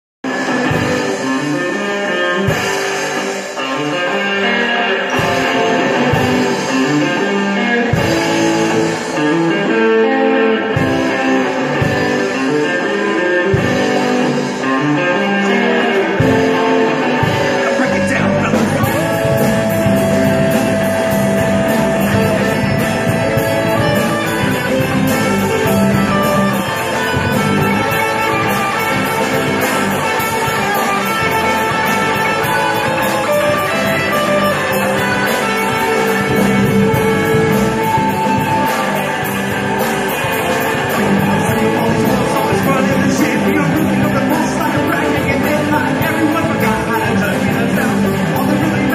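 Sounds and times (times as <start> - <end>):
live rock band playing: 0.2 - 48.9.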